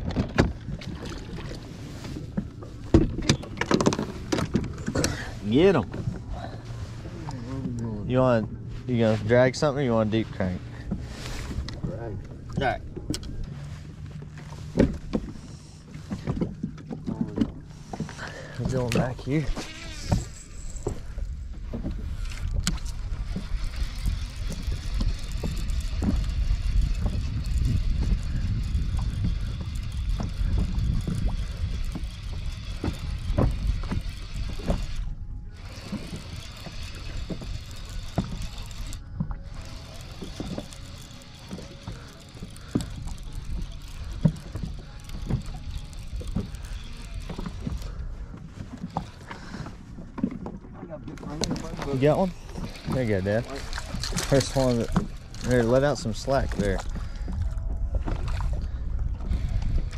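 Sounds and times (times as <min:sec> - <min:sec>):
water lapping against boat hull: 0:00.0 - 0:59.9
wind rumbling on microphone: 0:00.0 - 0:59.9.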